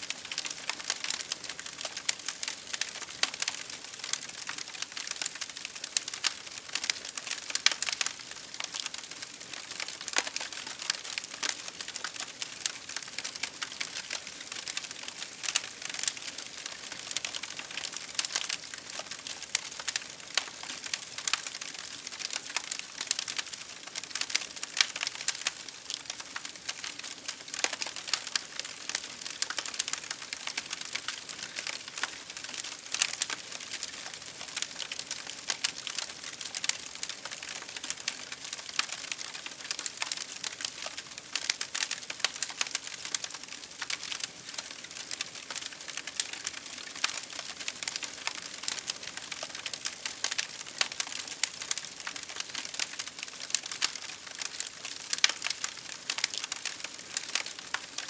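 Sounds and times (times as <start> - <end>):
fire crackling: 0.1 - 58.0.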